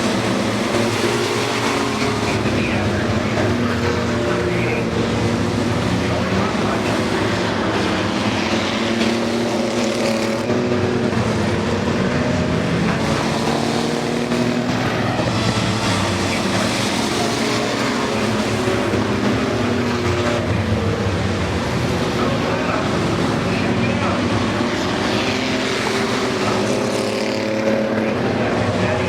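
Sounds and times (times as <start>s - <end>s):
racing truck engines: 0.0s - 29.0s.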